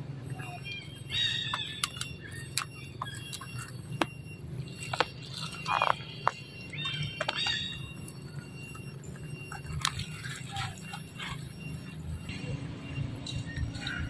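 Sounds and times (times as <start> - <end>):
birds chirping: 0.0 - 14.0
monkey crunching cabbage leaves: 1.1 - 14.0.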